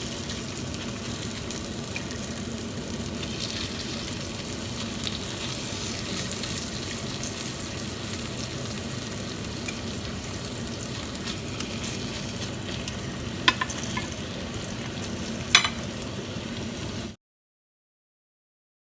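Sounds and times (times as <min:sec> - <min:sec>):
chicken sizzling in a pan: 0:00.0 - 0:17.2.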